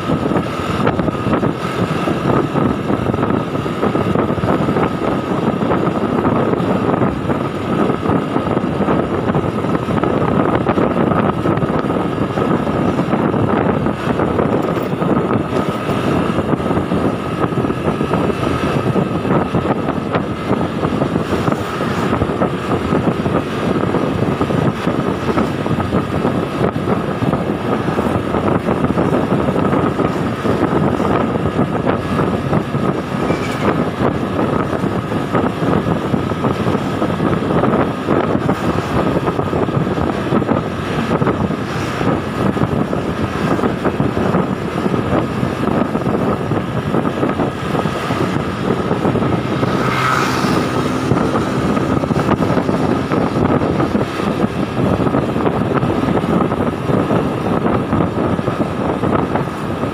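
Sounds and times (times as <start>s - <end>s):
motorbike engine running: 0.0s - 59.9s
wind rush on microphone: 0.0s - 59.9s.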